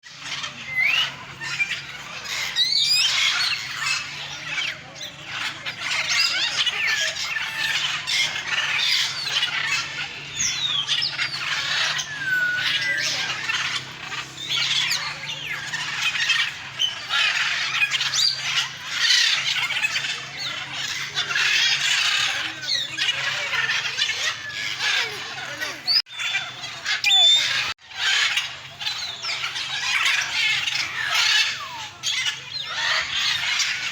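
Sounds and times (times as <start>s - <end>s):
birds squawking and chirping: 0.0s - 33.9s.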